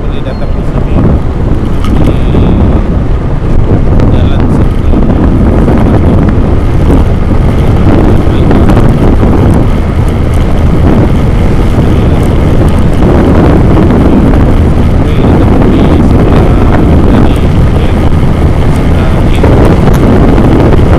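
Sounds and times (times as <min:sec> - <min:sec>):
vehicle and road noise: 0:00.0 - 0:20.9
wind buffeting microphone: 0:00.0 - 0:20.9.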